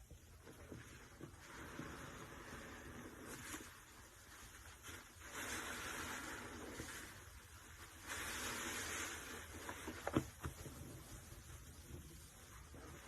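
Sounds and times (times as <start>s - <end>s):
sponge squeezed squishing water: 0.4s - 13.0s.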